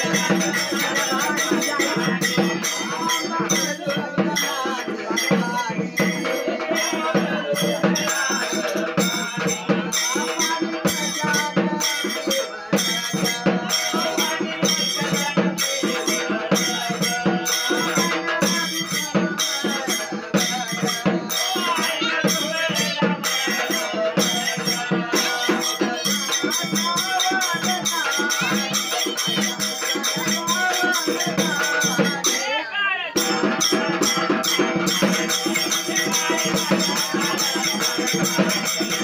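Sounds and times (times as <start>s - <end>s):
frame drum beaten with stick: 0.0s - 39.0s
voices singing folk song: 0.0s - 39.0s.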